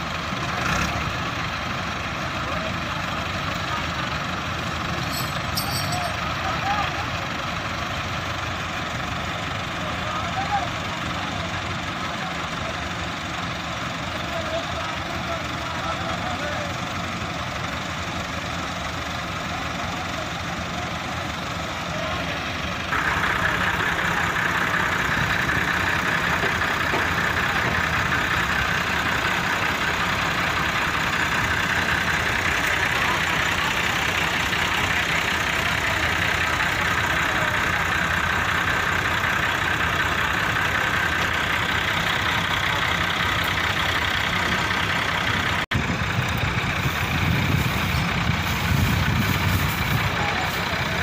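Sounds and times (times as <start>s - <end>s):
diesel tractor engines idling: 0.0s - 51.0s.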